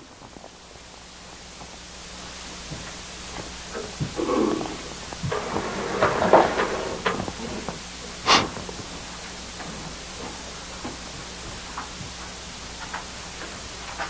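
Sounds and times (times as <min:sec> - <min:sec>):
low steady hum: 0:00.0 - 0:13.8.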